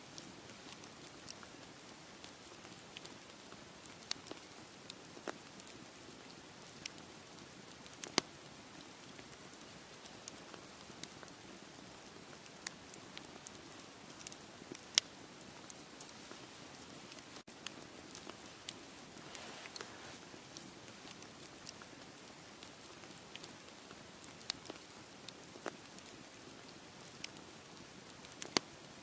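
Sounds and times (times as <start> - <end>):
campfire crackling and popping: 0.1 - 29.0.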